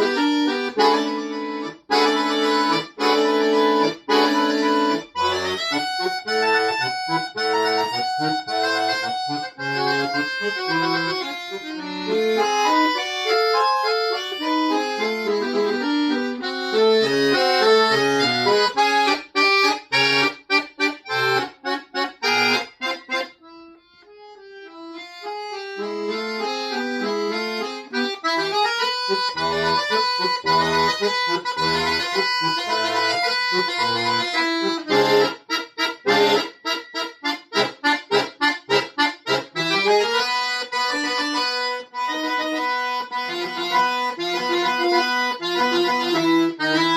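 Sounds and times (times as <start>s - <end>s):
accordion playing: 0.0s - 46.9s.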